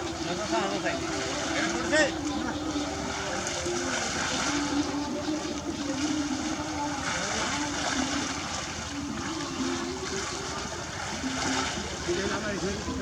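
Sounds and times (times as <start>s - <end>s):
people wading through water: 0.0s - 13.0s.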